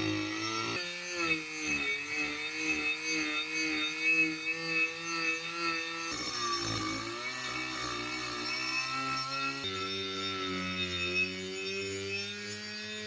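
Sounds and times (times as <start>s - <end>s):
small power tool motor: 0.0s - 13.0s.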